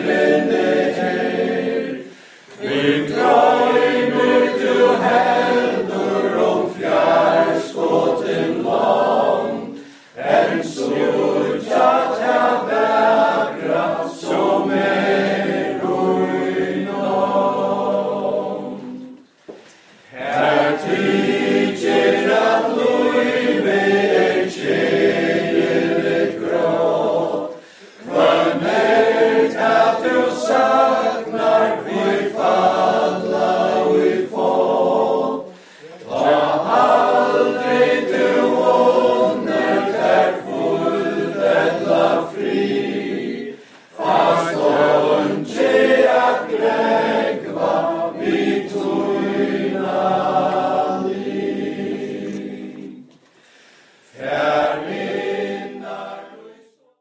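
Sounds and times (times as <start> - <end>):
male choir singing: 0.0 - 19.2, 20.1 - 53.1, 54.0 - 57.0.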